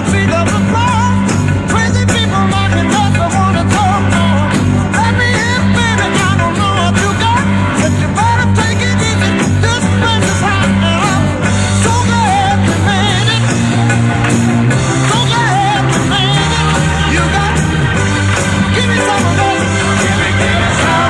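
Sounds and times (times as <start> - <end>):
rock song with singing: 0.0 - 21.0.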